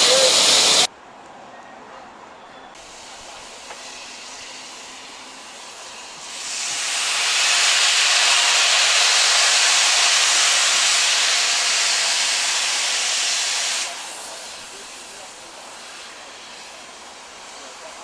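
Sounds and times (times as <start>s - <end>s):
steam hissing loudly: 0.0s - 0.9s, 2.8s - 18.0s.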